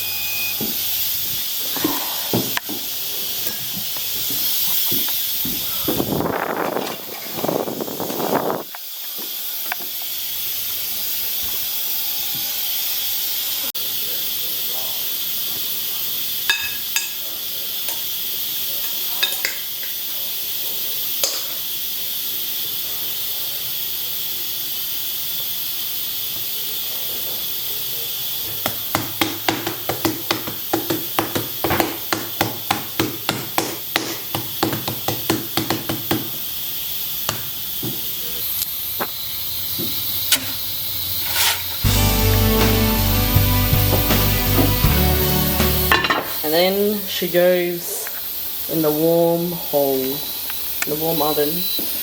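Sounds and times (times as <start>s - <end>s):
pressure cooker steam hissing: 0.0s - 52.0s.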